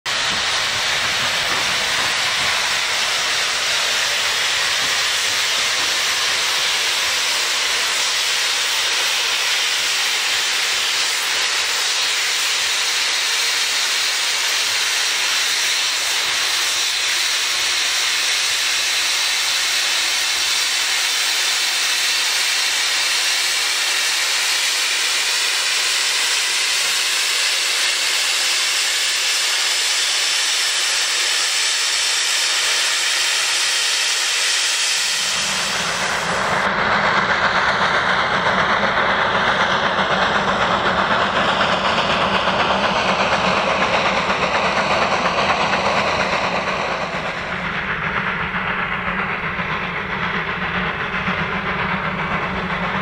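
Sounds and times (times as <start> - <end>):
locomotive steam hissing: 0.0 - 53.0.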